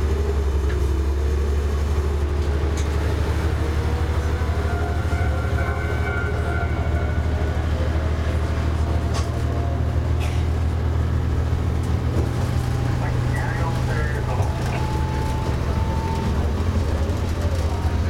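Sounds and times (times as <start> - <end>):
low engine drone: 0.0 - 18.0
wheels rumbling on rail: 0.0 - 18.0.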